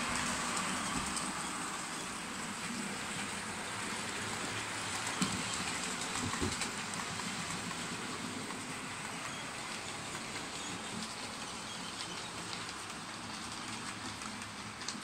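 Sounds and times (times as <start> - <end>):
model train rolling on track: 0.0 - 15.0.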